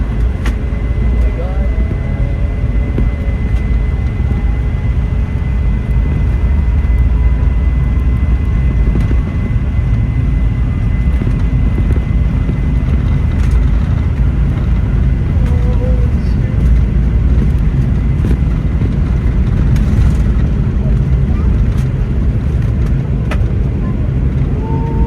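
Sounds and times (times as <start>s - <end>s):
jet engines deep rumble: 0.0s - 25.0s.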